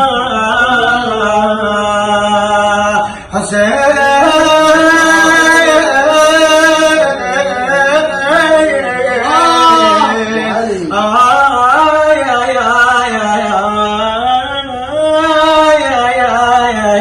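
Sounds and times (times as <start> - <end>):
man singing wordless notes: 0.0 - 17.0.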